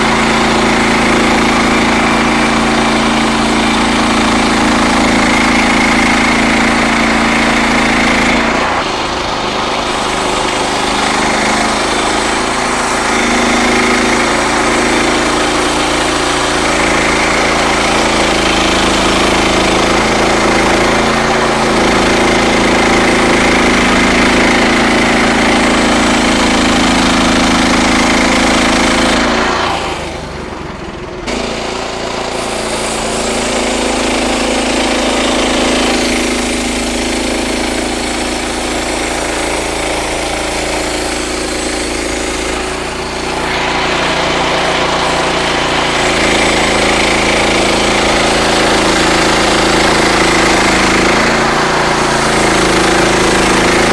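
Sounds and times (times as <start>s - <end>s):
band blade cutting log: 0.0s - 53.9s
sawmill engine under load: 0.0s - 53.9s.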